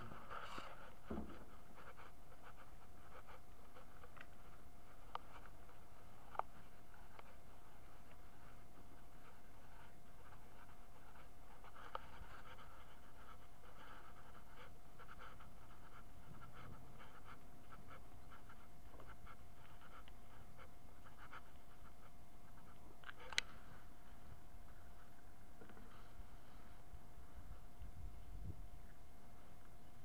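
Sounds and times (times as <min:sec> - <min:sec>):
large dog panting: 0:00.0 - 0:27.7.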